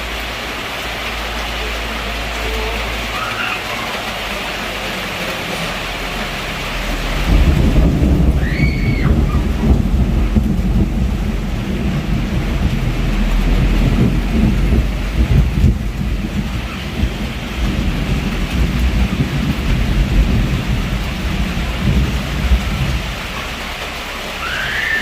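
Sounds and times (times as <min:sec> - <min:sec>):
heavy rain falling: 0:00.0 - 0:25.0
thunder rumbling: 0:00.0 - 0:25.0.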